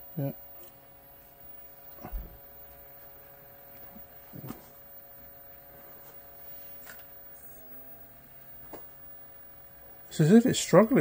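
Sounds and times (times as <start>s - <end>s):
video head motor humming: 0.0s - 11.0s.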